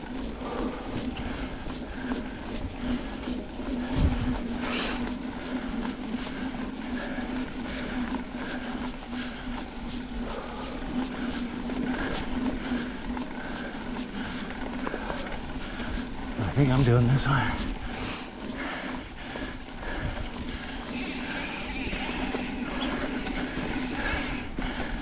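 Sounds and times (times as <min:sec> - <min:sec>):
bike tyres humming on dirt: 0:00.0 - 0:25.0.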